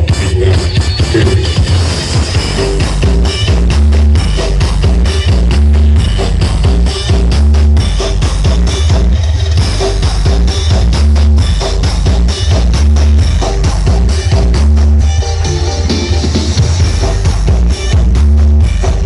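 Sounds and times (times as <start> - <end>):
loud music with booming bass: 0.0 - 19.0.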